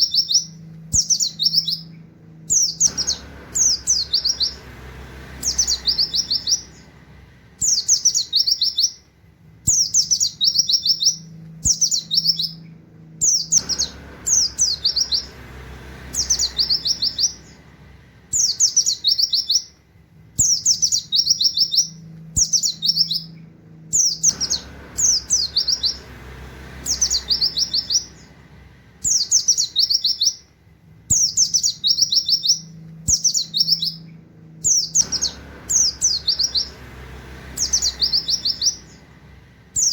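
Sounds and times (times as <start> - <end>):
small bird singing fast song: 0.0 - 39.9.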